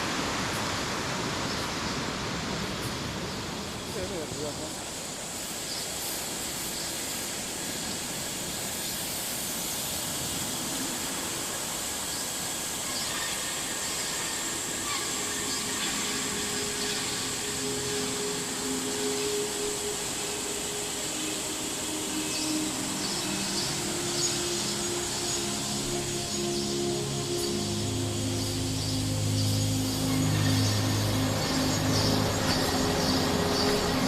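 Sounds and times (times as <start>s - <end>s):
rushing falling water: 0.0s - 34.0s.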